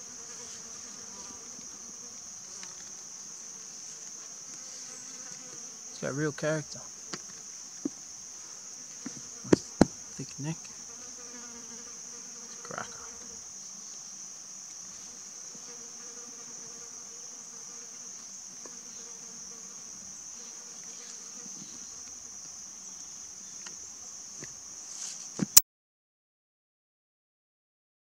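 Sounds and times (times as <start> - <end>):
insects trilling: 0.0 - 25.6.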